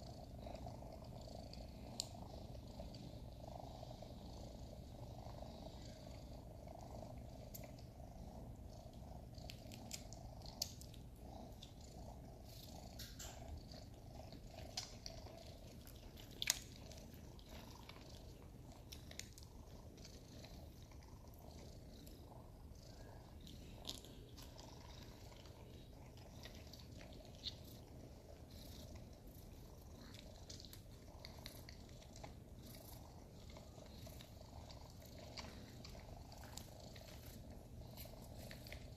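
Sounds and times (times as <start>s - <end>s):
kittens purring: 0.0s - 38.9s
small clicks and rustles: 0.4s - 3.5s, 8.6s - 22.2s, 22.9s - 38.9s.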